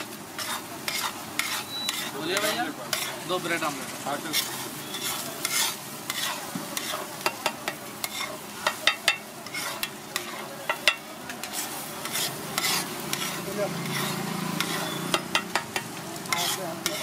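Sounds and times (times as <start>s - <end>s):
egg sizzling: 0.0s - 17.0s
metal spatula clacking on griddle: 0.4s - 3.2s, 4.3s - 17.0s.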